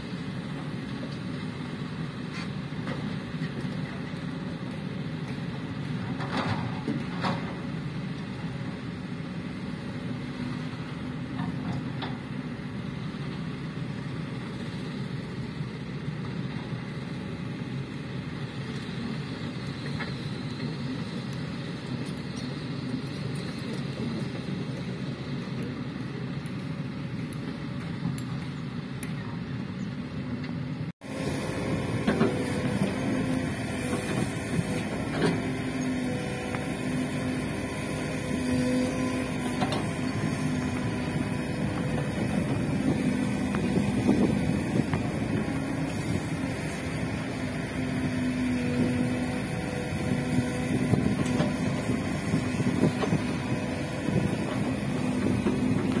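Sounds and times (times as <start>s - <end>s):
excavator diesel engine under load: 0.0s - 56.0s.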